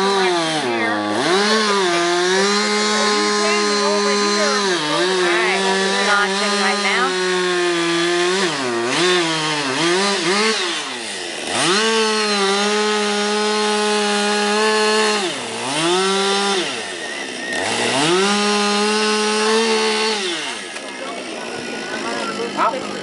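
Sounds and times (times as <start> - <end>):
chainsaw revving and cutting: 0.0 - 23.0.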